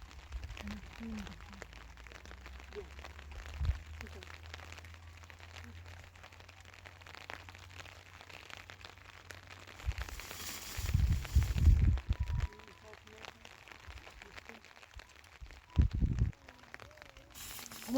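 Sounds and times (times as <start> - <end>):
heavy rain pattering: 0.0 - 17.9.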